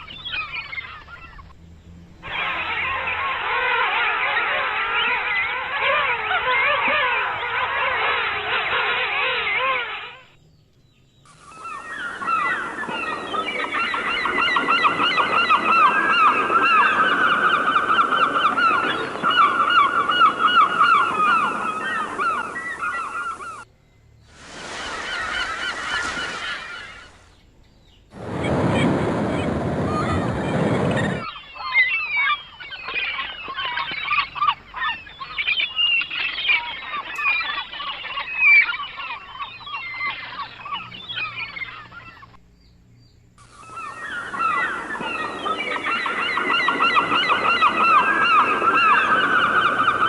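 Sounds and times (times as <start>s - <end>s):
chorus of birds calling: 0.0s - 50.0s.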